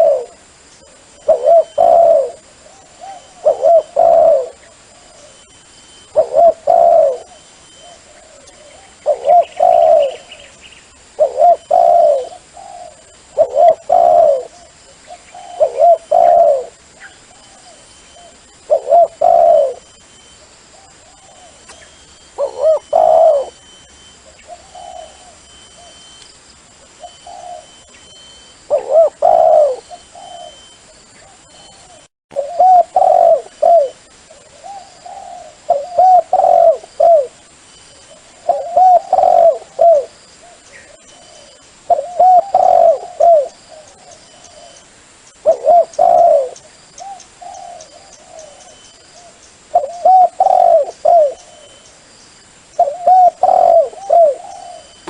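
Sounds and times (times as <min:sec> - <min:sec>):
dove cooing: 0:00.0 - 0:26.1, 0:26.8 - 0:44.8, 0:45.4 - 0:51.8, 0:52.7 - 0:55.0.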